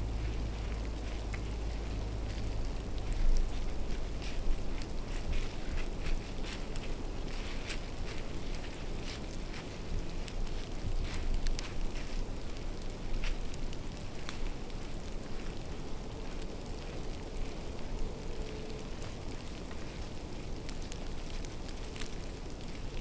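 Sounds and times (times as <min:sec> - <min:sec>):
light ticks and crackles: 0:00.0 - 0:23.0
wind rumbling on microphone: 0:00.0 - 0:23.0.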